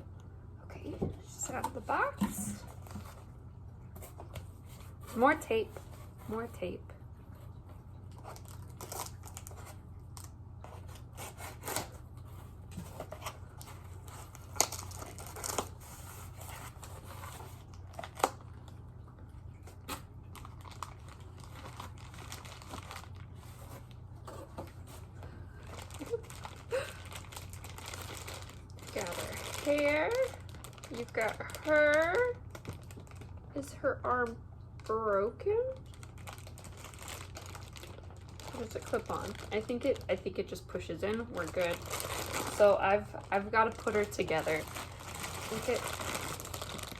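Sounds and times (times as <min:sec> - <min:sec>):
plastic crinkling: 0:01.2 - 0:46.9.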